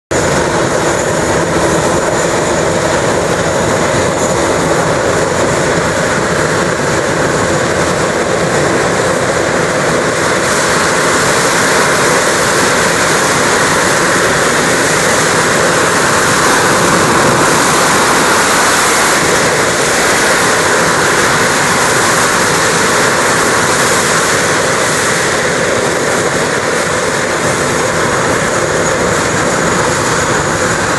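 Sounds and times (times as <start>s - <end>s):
jet engines with afterburner: 0.1s - 30.9s.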